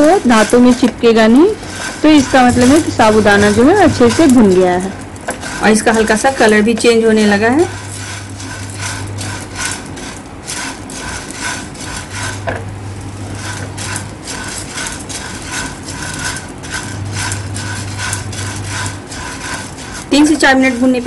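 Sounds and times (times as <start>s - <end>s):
dry pearls rattling: 0.0s - 21.0s
spatula scraping pan: 0.0s - 21.0s.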